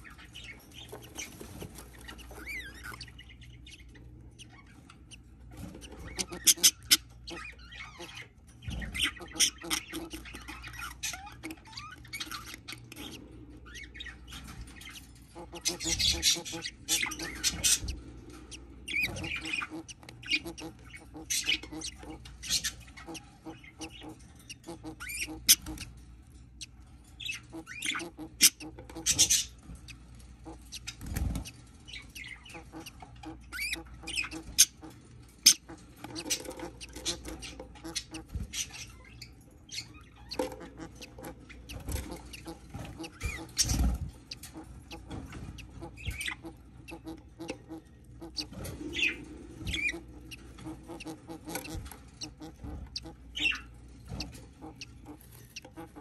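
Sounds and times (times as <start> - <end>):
budgerigars chirping and squeaking: 0.0 - 56.0.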